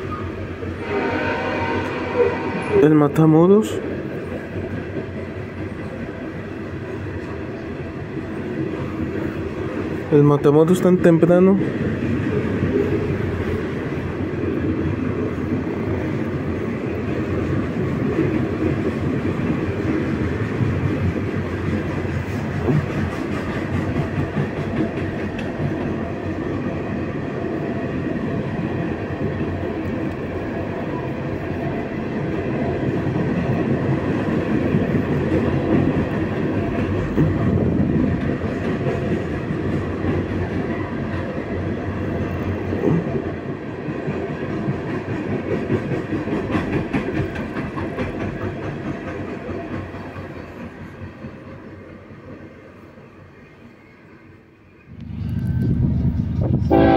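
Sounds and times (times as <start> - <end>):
freight train wheels rumbling on rails: 0.0 - 56.9.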